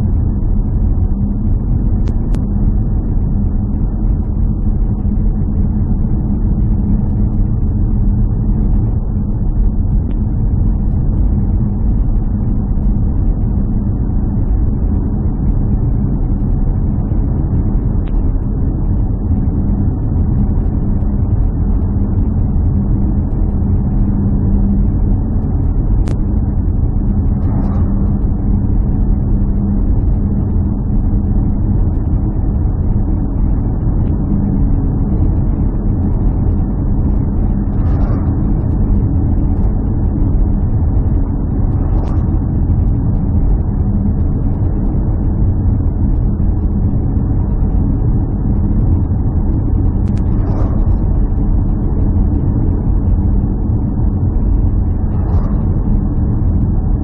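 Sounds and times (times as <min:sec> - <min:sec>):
vehicle engine drone: 0:00.0 - 0:57.0.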